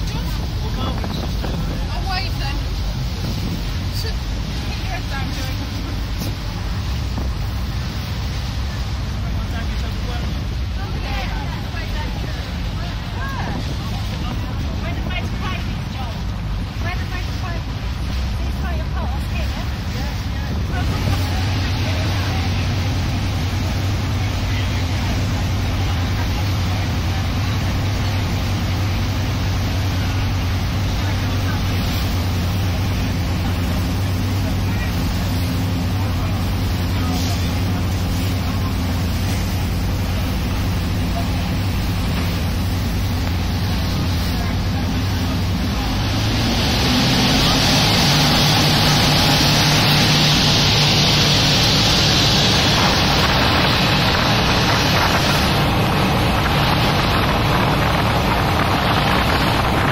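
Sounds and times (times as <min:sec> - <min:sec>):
boat engine hum: 0:00.0 - 0:59.9
water noise: 0:00.0 - 0:59.9
wind: 0:00.0 - 0:59.9.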